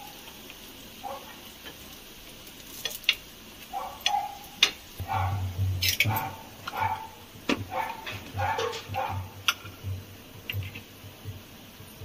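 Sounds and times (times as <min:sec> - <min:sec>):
faint sizzle of ghee: 0:00.0 - 0:12.0.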